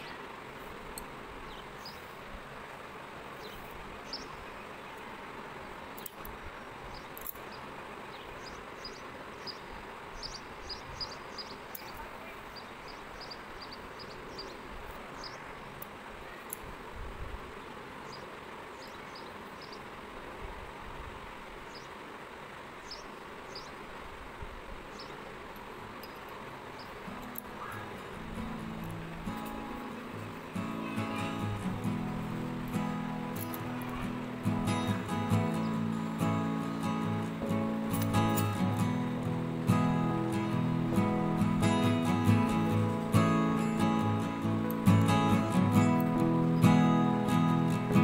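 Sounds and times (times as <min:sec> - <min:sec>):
steady background hiss: 0:00.0 - 0:48.0.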